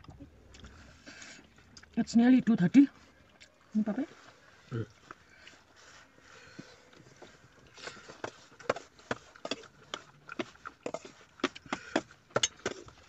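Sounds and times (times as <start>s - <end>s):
person chewing food: 0.0s - 2.0s, 3.2s - 13.0s.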